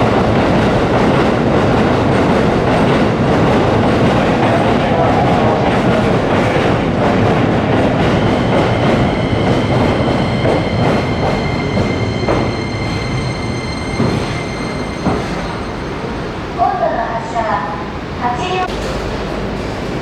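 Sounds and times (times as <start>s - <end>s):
electric train rumbling past: 0.0s - 20.0s.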